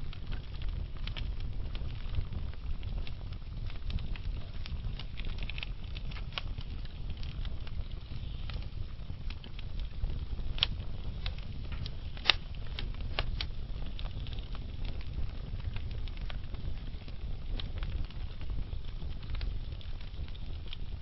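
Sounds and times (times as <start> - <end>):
fire crackling in fireplace: 0.0 - 21.0
wood fire pops: 0.0 - 21.0.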